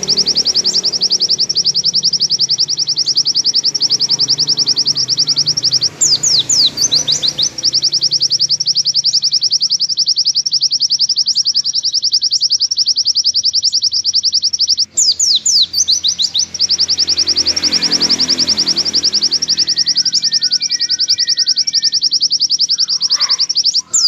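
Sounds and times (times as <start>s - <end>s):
bird singing fast trill: 0.0s - 24.0s.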